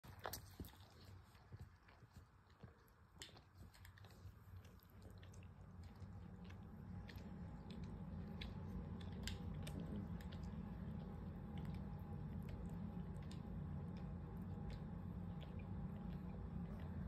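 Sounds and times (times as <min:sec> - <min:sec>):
kitten licking fur: 0:00.0 - 0:17.0
low steady rumble: 0:00.0 - 0:17.0.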